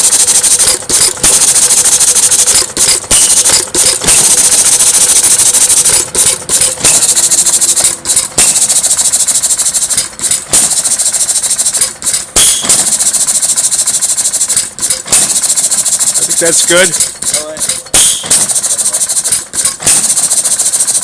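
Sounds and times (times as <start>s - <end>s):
stationary engine running: 0.0s - 21.0s.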